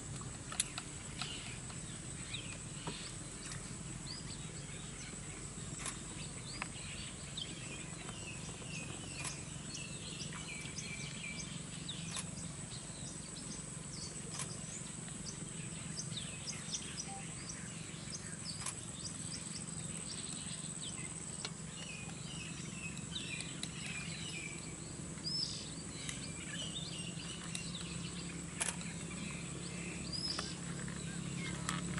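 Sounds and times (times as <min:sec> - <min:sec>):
low steady hum: 0:00.0 - 0:31.9
bird chirps and twitters: 0:00.5 - 0:31.9.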